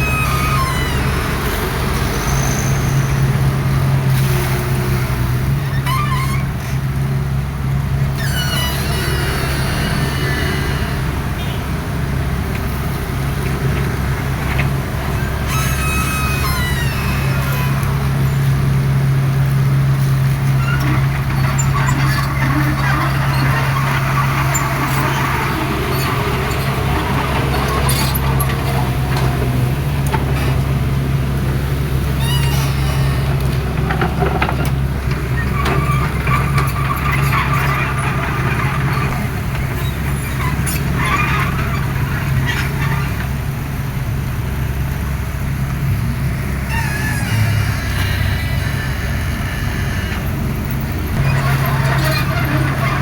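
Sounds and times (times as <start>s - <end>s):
high-pitched squeals: 0.0s - 4.5s, 8.1s - 12.0s, 14.5s - 31.1s, 32.0s - 43.4s, 46.6s - 53.0s
excavator diesel engine running: 0.0s - 53.0s.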